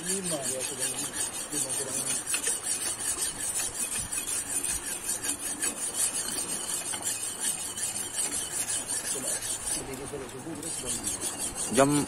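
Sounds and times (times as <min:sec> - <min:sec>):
knife scraping fish scales: 0:00.0 - 0:12.0.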